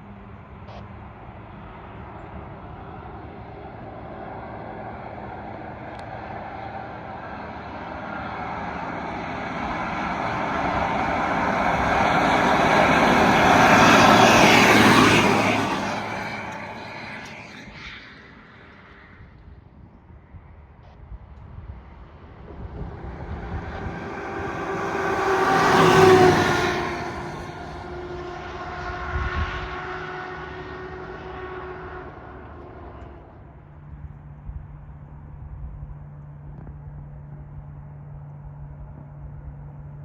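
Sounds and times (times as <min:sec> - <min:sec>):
fire truck passing: 0:00.0 - 0:19.8, 0:21.5 - 0:35.0.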